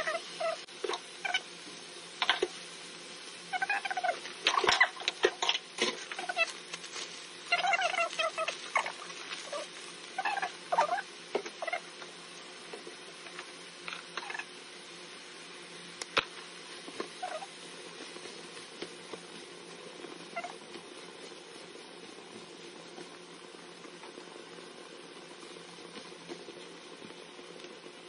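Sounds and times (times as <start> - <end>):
meat frying in a pan: 0.0 - 28.0.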